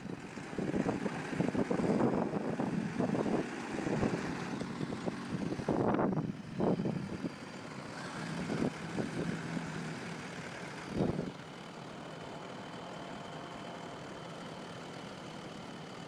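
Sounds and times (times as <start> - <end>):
tractor engines running: 0.0 - 16.0.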